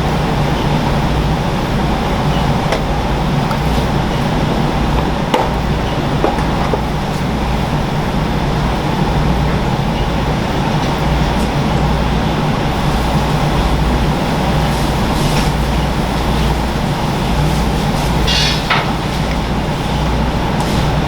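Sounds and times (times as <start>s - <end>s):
loud mechanical hum: 0.0s - 21.0s.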